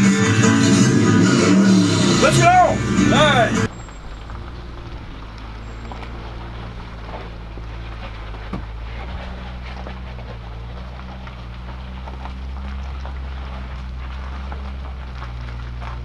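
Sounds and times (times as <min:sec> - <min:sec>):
engine running low drone: 0:00.0 - 0:16.0.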